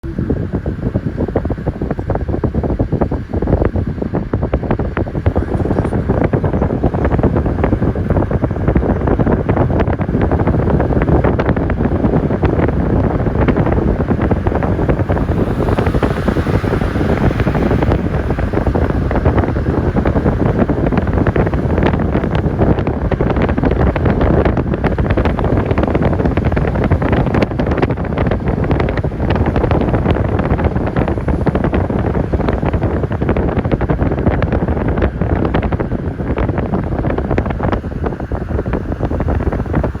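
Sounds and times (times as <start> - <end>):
car road noise rumbling: 0.0 - 40.0
wind buffeting microphone: 0.0 - 40.0.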